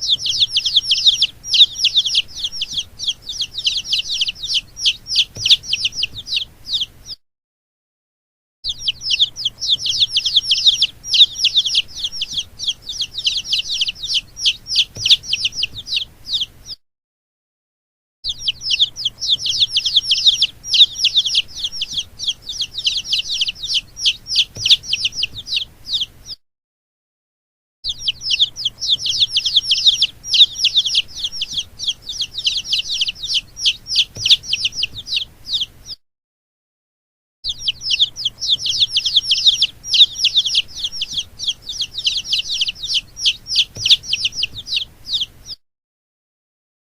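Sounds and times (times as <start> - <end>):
baby chicks peeping: 0.0 - 7.2, 8.7 - 16.8, 18.3 - 26.4, 27.9 - 36.0, 37.5 - 45.6.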